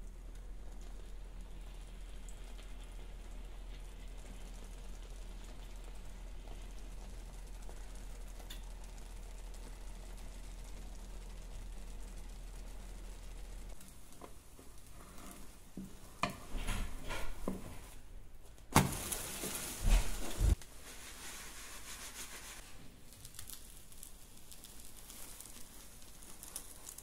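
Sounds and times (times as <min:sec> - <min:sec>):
frying pan sizzling: 0:00.0 - 0:27.0.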